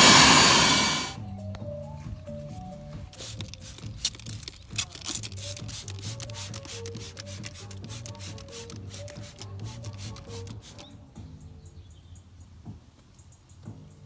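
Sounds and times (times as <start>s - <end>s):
background music with bass and beat: 1.2s - 14.0s.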